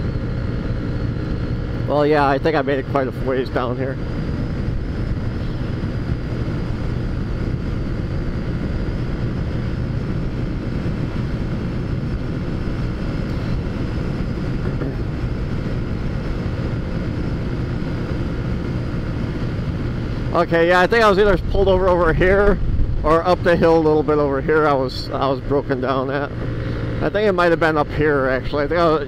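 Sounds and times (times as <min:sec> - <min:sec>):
road noise: 0:00.0 - 0:29.0
wind: 0:00.0 - 0:29.0.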